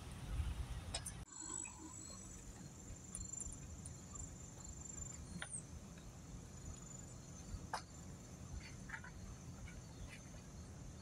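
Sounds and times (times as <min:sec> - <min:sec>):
high-pitched insect trill: 0:01.3 - 0:11.0.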